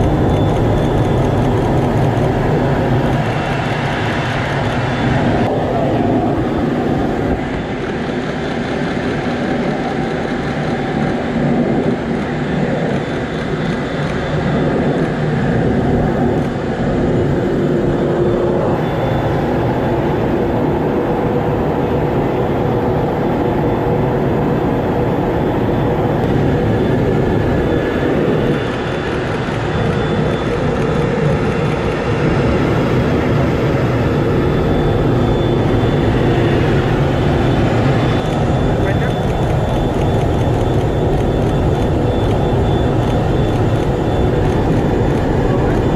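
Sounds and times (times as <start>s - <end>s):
jet engine and airflow rush: 0.0s - 45.9s.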